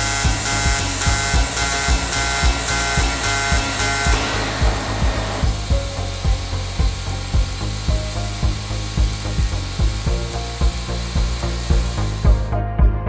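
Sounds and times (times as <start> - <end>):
welding arc hissing and sizzling: 0.0 - 12.5
background music with low thumps: 0.0 - 13.0.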